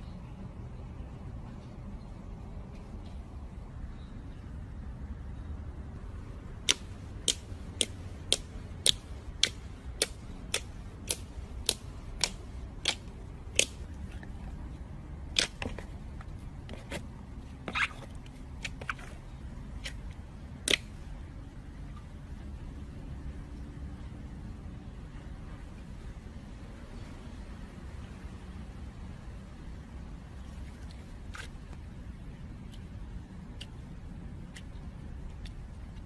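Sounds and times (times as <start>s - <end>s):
low background noise: 0.0s - 36.0s.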